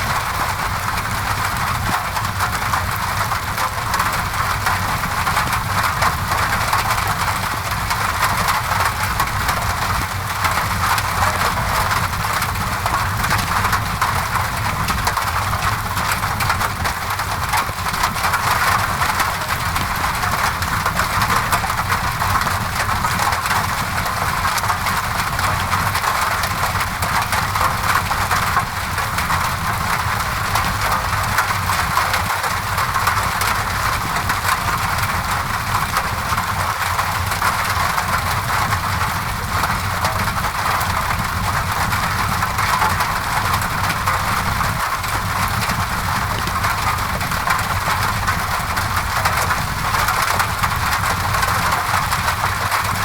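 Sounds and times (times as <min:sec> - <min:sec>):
rain against a window: 0:00.0 - 0:53.0.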